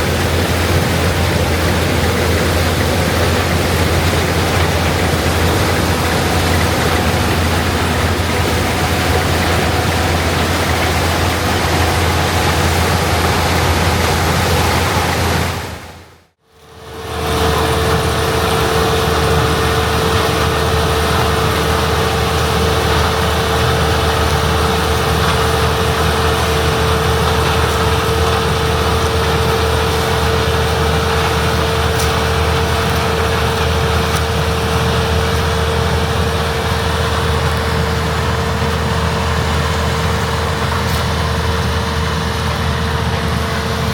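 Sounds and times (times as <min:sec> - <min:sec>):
farm machinery engines running: 0:00.0 - 0:43.9
steady machine whine: 0:00.0 - 0:43.9.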